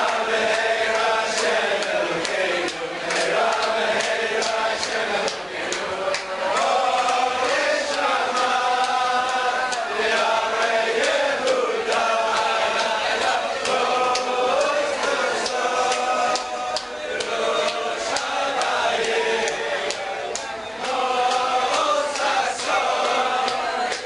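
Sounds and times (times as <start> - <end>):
men singing in unison: 0.0 - 24.0
sharp hand claps: 0.0 - 24.0.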